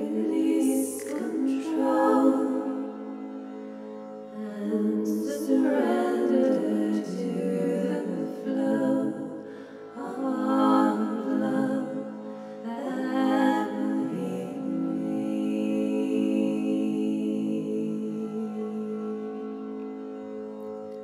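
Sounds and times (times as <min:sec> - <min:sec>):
wordless voice singing: 0:00.0 - 0:03.3, 0:04.3 - 0:19.6.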